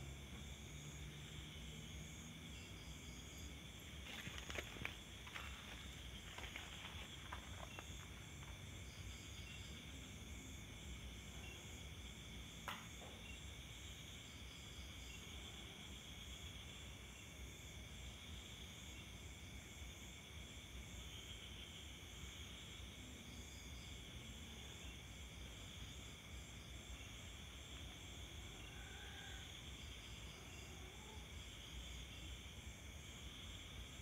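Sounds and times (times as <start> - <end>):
night insects chirping: 0.0 - 34.0.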